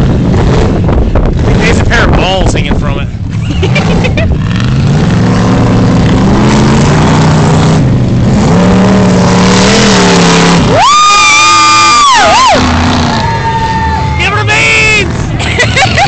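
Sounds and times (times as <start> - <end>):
engine revving in mud: 0.0 - 2.3, 3.2 - 16.0.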